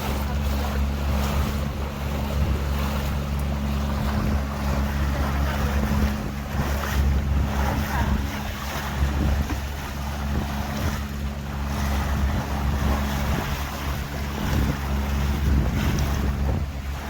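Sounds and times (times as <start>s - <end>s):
boat engine humming: 0.0s - 17.0s
water rushing past hull: 0.0s - 17.0s
wind buffeting microphone: 0.0s - 17.0s.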